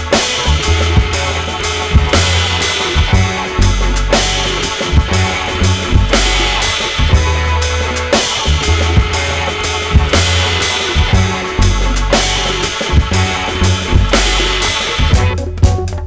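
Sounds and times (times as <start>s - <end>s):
loud music with drum beat: 0.0s - 16.0s.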